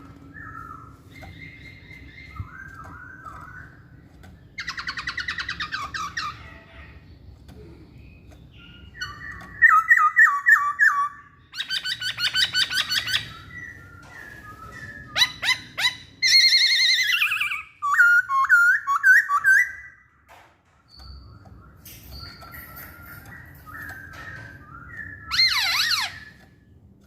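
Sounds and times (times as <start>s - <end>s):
bird singing trills and whistles: 0.1s - 20.3s, 20.9s - 26.8s.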